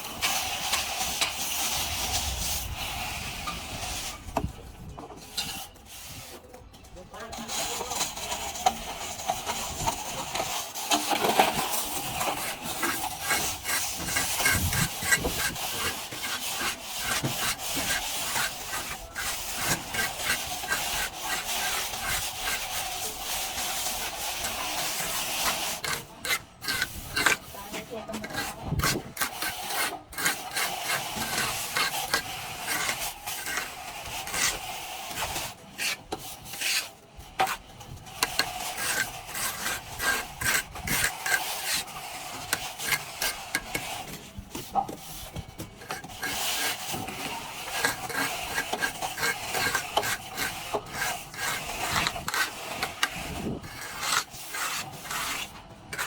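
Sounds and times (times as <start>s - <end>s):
plastering tool scraping wall: 7.3s - 56.0s.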